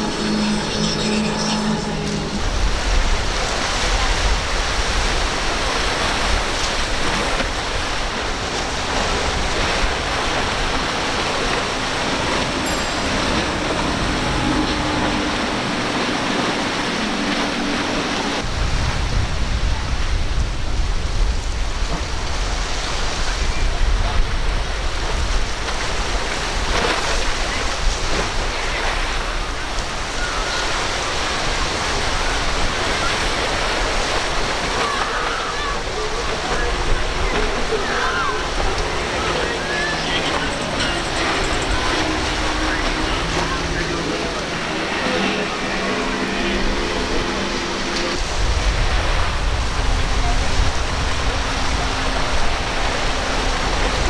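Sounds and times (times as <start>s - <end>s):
outboard engine drone: 0.0s - 54.0s
surf and choppy water: 0.0s - 54.0s
wind on microphone: 0.0s - 54.0s.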